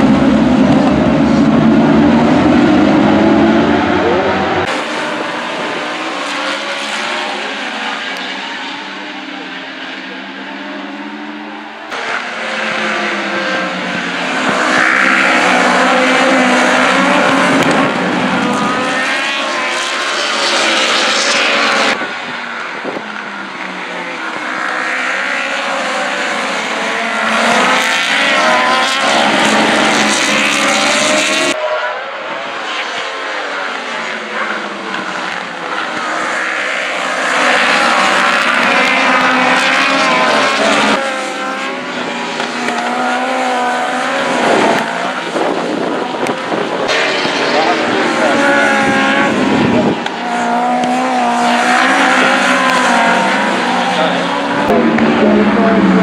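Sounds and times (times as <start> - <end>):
racing motorcycles passing: 0.0 - 56.0.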